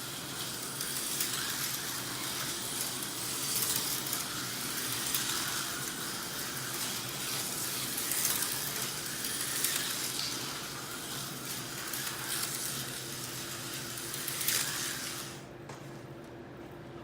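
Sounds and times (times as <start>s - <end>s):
slot car motors whirring: 0.0s - 15.5s.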